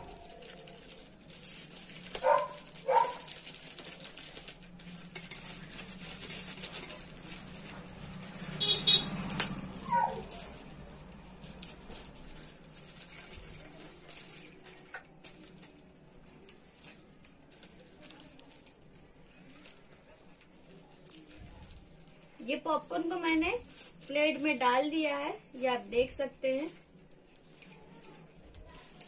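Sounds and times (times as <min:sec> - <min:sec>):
plastic bag crinkling: 0:00.0 - 0:29.0
popcorn poured onto steel plates: 0:00.0 - 0:29.0.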